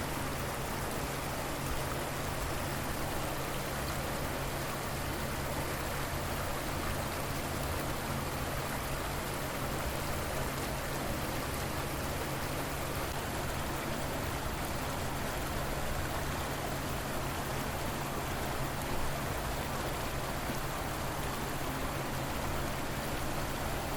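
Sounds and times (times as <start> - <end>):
river water flowing: 0.0 - 23.9.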